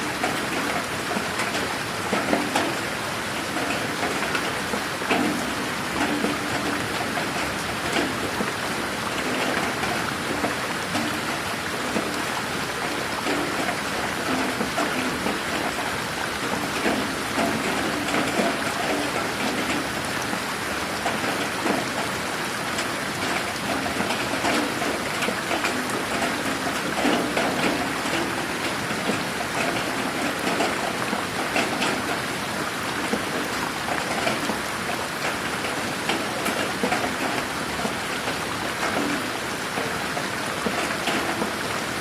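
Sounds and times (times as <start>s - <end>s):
raindrops pattering on surfaces: 0.0s - 42.0s
steady rain hiss: 0.0s - 42.0s.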